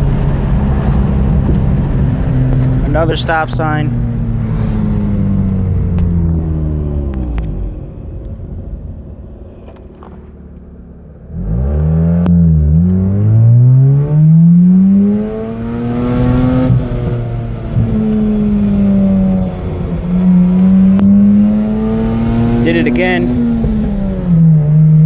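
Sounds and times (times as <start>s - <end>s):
rotary engine revving: 0.0s - 8.0s, 11.3s - 25.0s.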